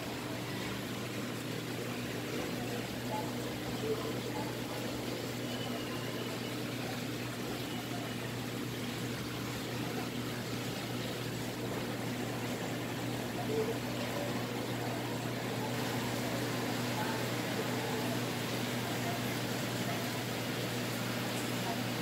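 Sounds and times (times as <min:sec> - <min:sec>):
aquarium pump hum: 0:00.0 - 0:22.0.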